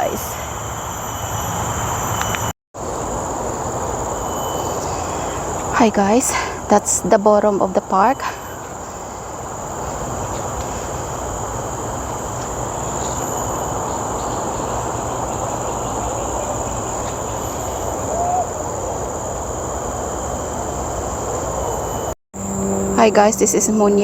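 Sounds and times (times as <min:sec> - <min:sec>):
insects droning high-pitched: 0:00.0 - 0:24.0.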